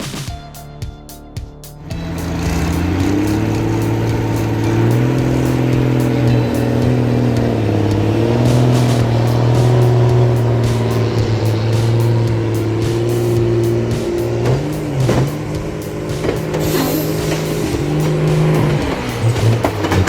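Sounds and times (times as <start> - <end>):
truck diesel engine under load: 2.0 - 20.0.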